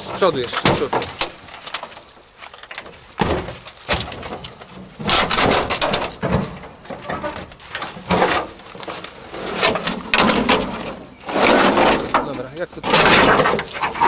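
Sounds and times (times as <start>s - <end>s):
metal car wreck knocks and scrapes: 0.0s - 14.0s.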